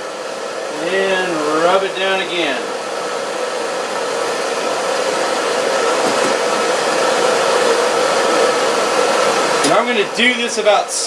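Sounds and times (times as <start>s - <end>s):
electric blower whirring: 0.0s - 10.2s.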